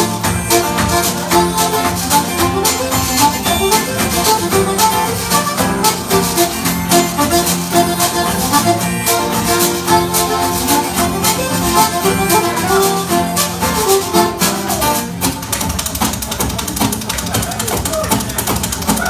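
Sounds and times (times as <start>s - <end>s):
button accordion folk tune: 0.0s - 16.3s
acoustic guitar: 0.0s - 19.0s
washboard beat: 0.0s - 19.0s.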